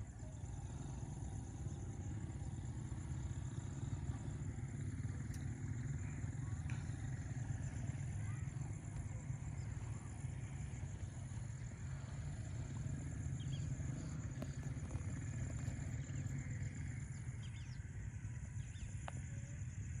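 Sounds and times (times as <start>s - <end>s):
insect trill: 0.0s - 20.0s.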